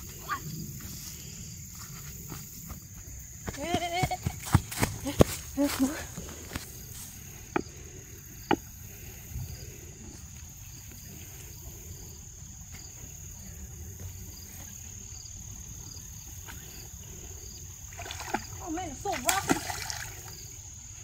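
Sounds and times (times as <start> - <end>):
insects singing: 0.0 - 21.0.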